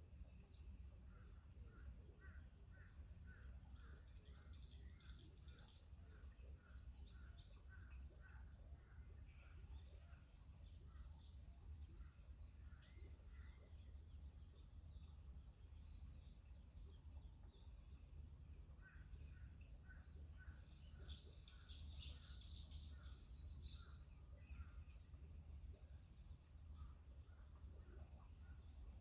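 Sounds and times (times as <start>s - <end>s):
faint birdsong chirps: 0.0s - 29.0s.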